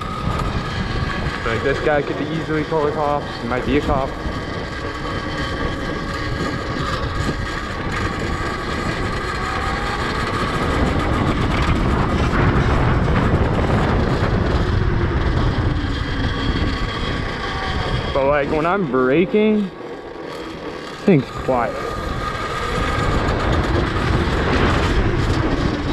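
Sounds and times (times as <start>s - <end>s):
electric motor whine: 0.0s - 25.9s.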